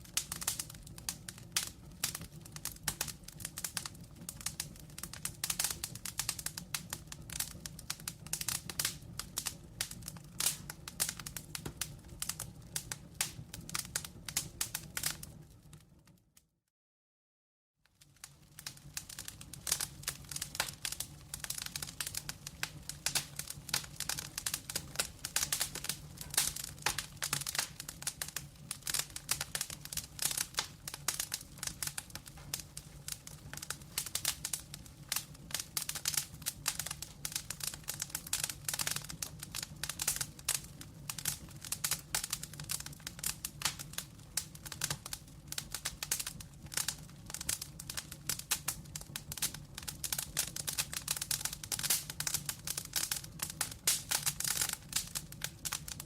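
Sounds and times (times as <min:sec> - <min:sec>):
low rumble of flame: 0:00.0 - 0:16.3, 0:18.0 - 0:56.0
wood fire crackling: 0:00.0 - 0:16.4, 0:17.9 - 0:56.0.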